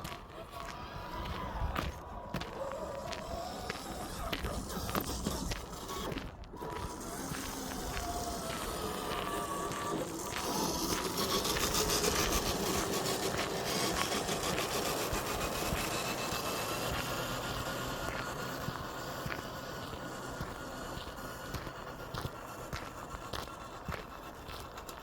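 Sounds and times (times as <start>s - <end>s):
electric motor and gearbox whining: 0.0s - 25.0s.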